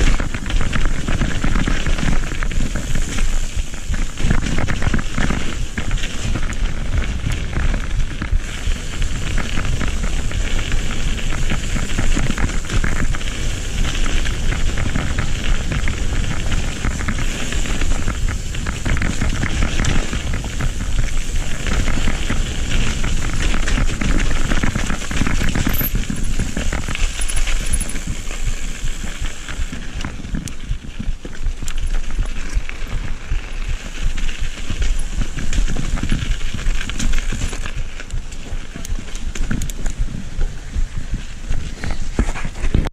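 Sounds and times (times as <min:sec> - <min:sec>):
bike rattling over bumps: 0:00.0 - 0:42.9
bike tyres on rough trail: 0:00.0 - 0:42.9.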